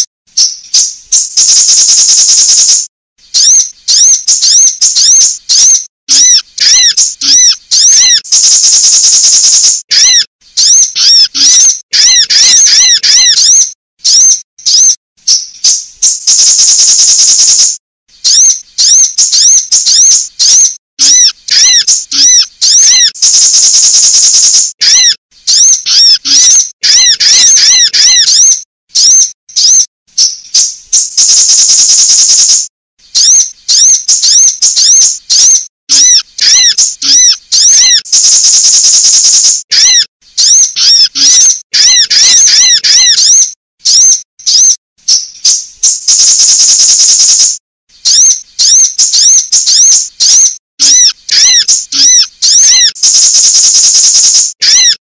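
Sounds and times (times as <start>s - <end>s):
buzzy bird trill: 0.0s - 55.0s
sharp high bird chirps: 0.0s - 55.0s.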